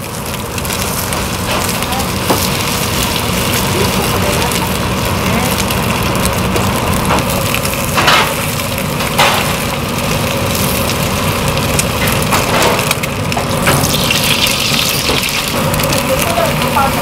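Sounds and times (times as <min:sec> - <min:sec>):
egg sizzling in a frying pan: 0:00.0 - 0:17.0.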